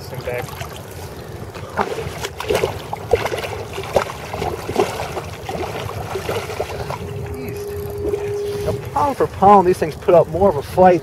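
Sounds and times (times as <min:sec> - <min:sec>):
water splashing and sloshing: 0:00.0 - 0:10.2.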